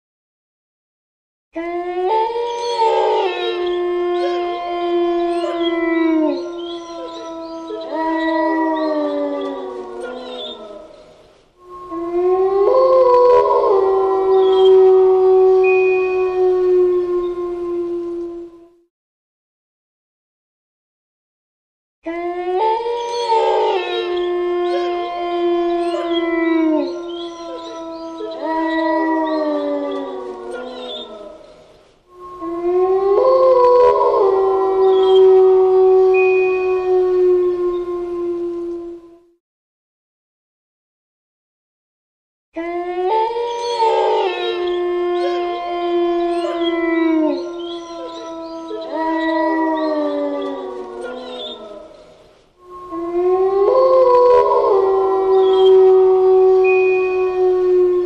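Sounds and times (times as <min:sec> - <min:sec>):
wolves howling: 0:01.6 - 0:18.8, 0:22.0 - 0:39.4, 0:42.6 - 0:58.0.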